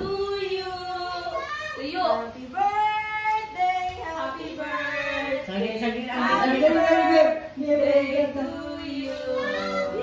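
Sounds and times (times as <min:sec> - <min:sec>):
voices singing together: 0:00.0 - 0:10.0.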